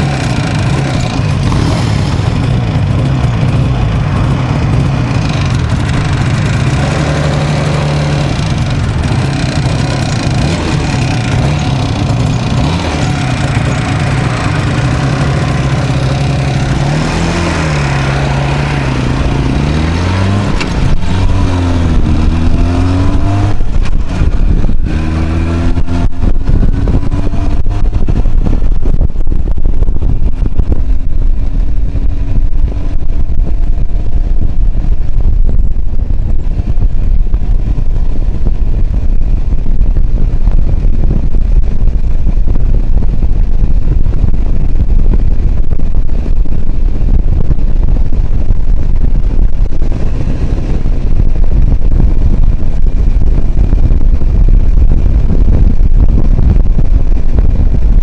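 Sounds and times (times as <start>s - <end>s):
two-stroke engine accelerating: 0.0s - 58.0s
wind noise on microphone: 0.0s - 58.0s.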